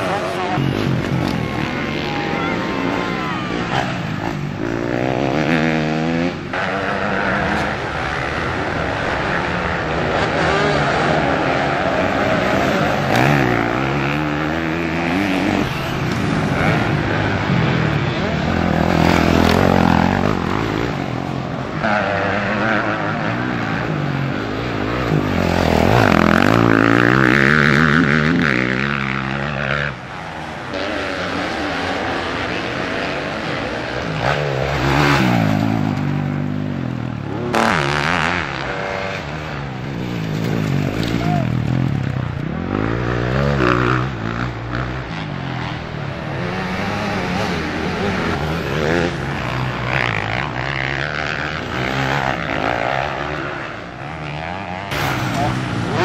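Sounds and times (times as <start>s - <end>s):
motorcycle engines revving past: 0.0s - 56.0s.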